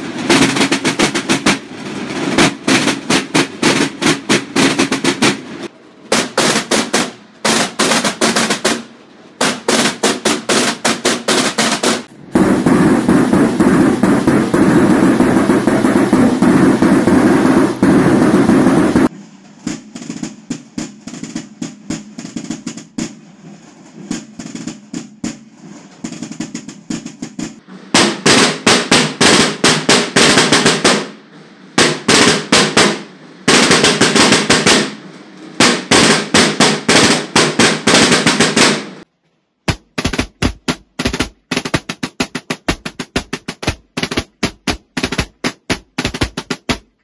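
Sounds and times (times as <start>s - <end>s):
drums beaten with sticks: 0.0s - 39.0s, 39.7s - 47.0s.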